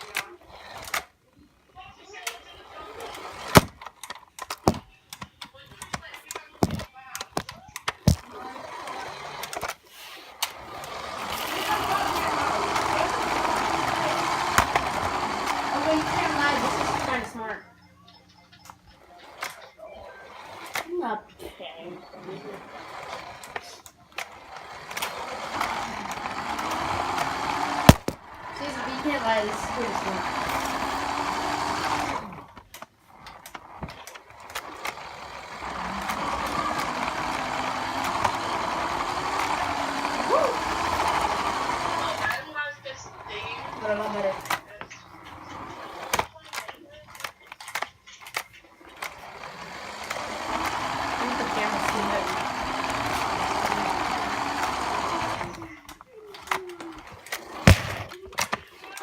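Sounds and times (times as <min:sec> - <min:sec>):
toy car electric motor whirring: 0:00.0 - 0:59.0.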